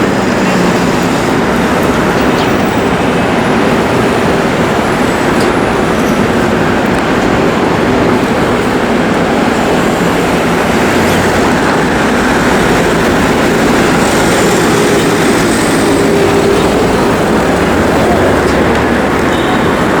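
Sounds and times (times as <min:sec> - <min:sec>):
rumbling vehicle noise: 0:00.0 - 0:20.0.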